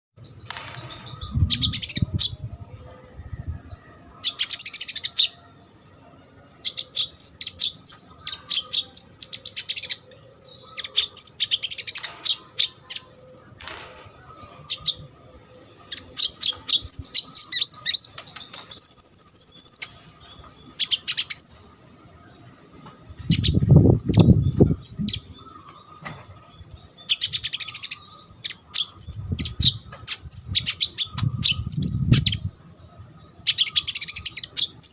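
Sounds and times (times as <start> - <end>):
bird twittering and chattering: 0.2 - 2.5, 6.6 - 21.6, 22.8 - 34.9.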